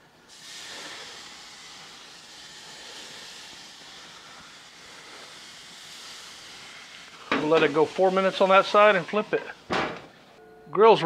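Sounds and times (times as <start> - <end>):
fish sizzling on a grill: 0.3 - 9.8.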